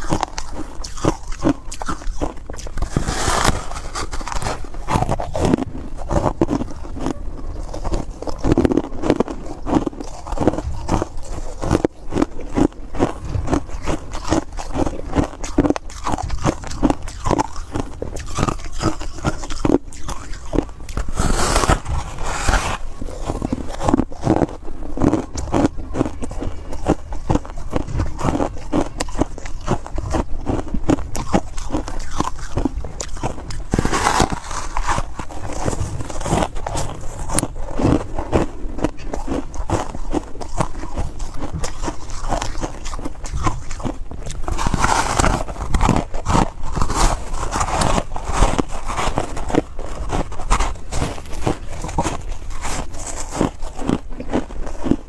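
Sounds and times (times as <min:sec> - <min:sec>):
crunching foam ice: 0:00.0 - 0:55.0.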